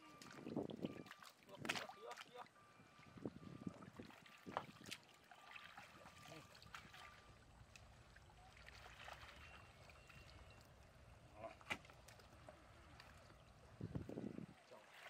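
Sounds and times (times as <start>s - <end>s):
shallow water splashing: 0.0s - 15.0s.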